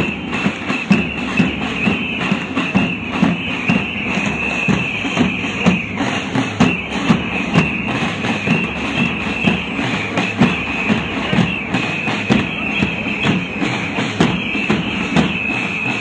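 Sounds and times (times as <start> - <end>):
continuous high-pitched tone: 0.0 - 16.0
drums beating steady rhythm: 0.0 - 16.0.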